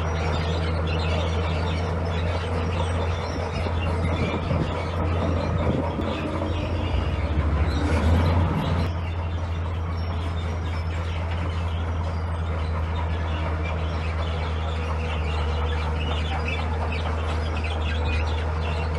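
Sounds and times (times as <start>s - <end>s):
diesel engine low hum: 0.0s - 18.9s.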